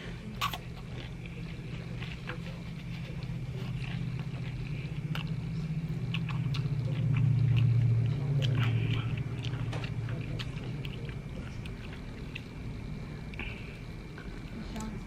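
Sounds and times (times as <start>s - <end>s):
chewing crispy food: 0.0s - 15.0s
low steady hum: 0.0s - 15.0s.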